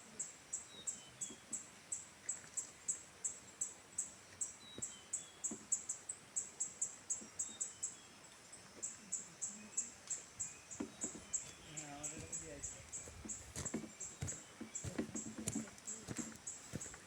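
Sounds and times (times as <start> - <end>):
faint bird chirps: 2.3 - 17.0.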